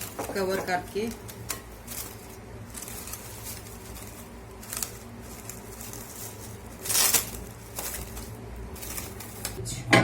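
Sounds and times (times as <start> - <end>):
cling film crinkling: 0.0 - 9.6.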